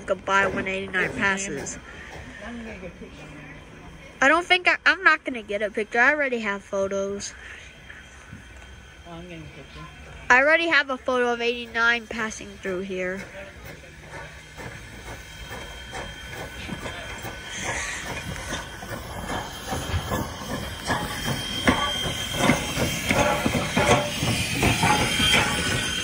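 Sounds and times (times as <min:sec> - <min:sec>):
steam hissing: 0:00.0 - 0:26.0
steam locomotive chuffs and clanks: 0:00.0 - 0:26.0.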